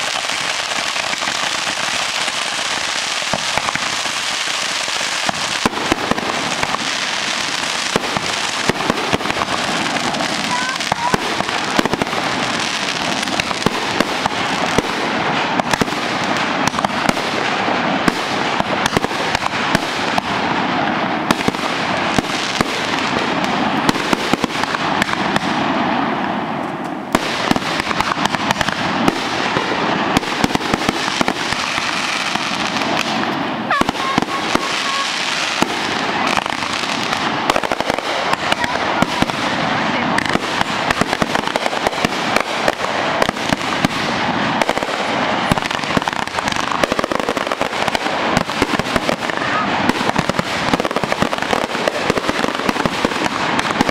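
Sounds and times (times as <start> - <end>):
fireworks crackling and banging: 0.0 - 53.9.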